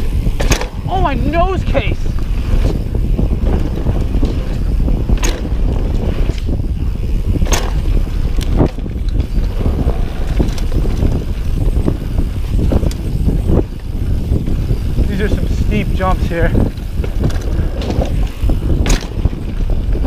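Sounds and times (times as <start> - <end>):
bike rattling: 0.0 - 20.0
tyres rolling on dirt: 0.0 - 20.0
wind on microphone: 0.0 - 20.0.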